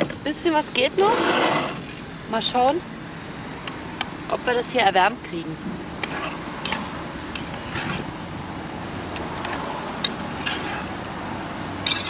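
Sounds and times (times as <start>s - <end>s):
gas stove hissing: 0.0s - 12.0s.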